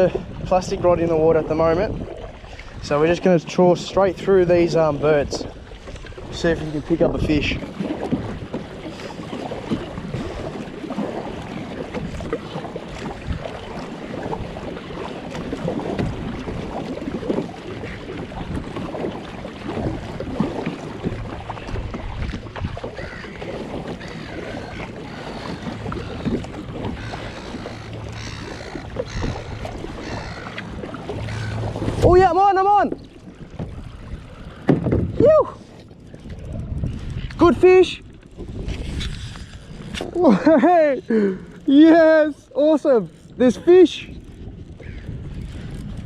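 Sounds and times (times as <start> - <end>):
wind on microphone: 0.0 - 3.3, 4.0 - 40.3, 44.0 - 46.0
water splashing against kayak hull: 0.0 - 46.0.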